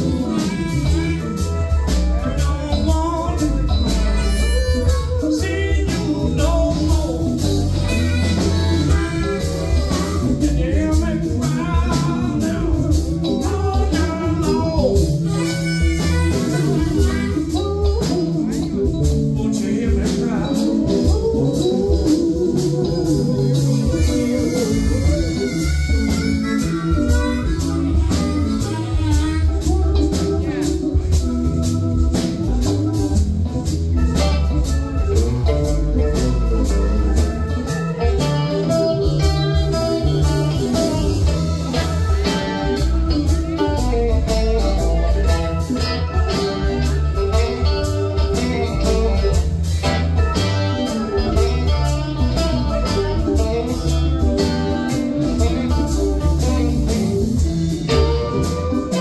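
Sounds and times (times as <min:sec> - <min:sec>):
bass: 0:00.0 - 0:59.0
drum kit: 0:00.0 - 0:59.0
electric guitars: 0:00.0 - 0:59.0
keyboards: 0:00.0 - 0:59.0.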